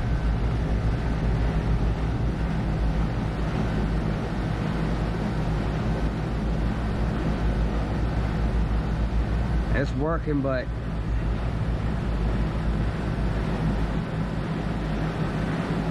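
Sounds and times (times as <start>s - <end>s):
air conditioning unit humming: 0.0s - 15.9s.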